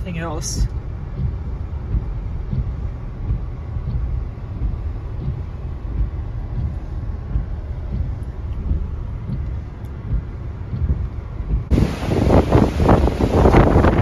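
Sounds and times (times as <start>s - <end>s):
car road noise: 0.0s - 14.0s
wind gusts buffeting car: 0.0s - 14.0s.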